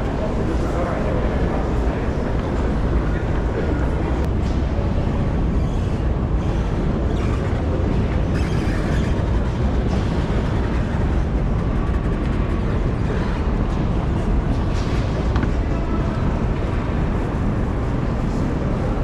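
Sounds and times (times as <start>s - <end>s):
passenger train running: 0.0s - 19.0s.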